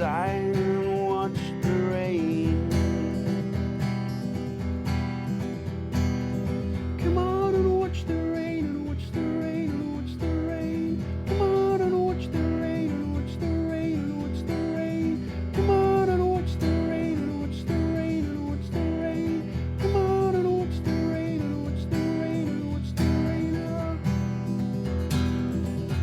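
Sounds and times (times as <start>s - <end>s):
acoustic guitar strumming: 0.0s - 26.0s
guitar melody line: 0.0s - 26.0s.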